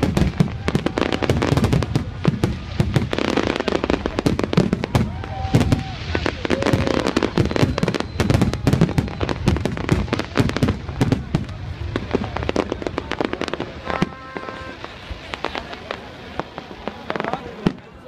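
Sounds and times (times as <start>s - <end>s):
fireworks bangs crackling: 0.0s - 18.0s.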